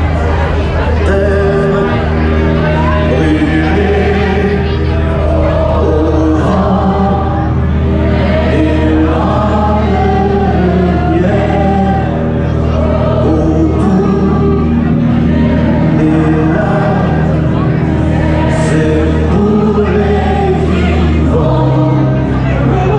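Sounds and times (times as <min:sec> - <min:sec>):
amplified music with bass: 0:00.0 - 0:22.9
crowd singing along: 0:00.0 - 0:22.9.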